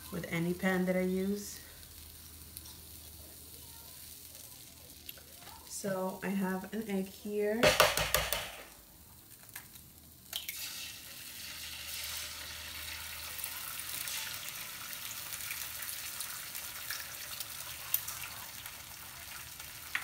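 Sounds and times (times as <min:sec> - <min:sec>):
egg sizzling in oil: 0:00.0 - 0:06.9, 0:07.7 - 0:20.0.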